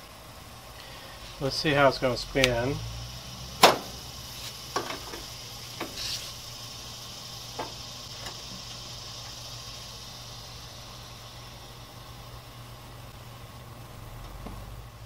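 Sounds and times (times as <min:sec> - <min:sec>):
gas grill burners hissing: 0:00.0 - 0:15.0
low steady hum: 0:00.0 - 0:15.0.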